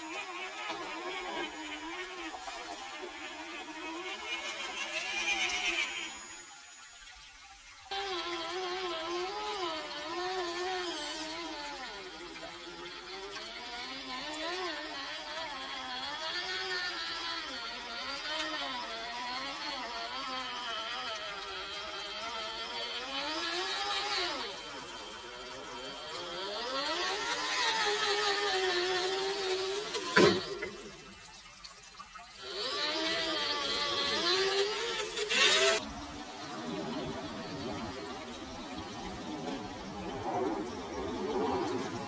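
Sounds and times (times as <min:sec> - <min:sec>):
toy car electric motor whining: 0:00.0 - 0:42.0.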